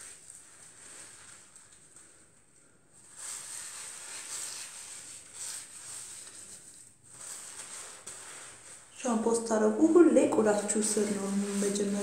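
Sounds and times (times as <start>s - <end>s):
hands rustling through wet hair: 0.0s - 12.0s.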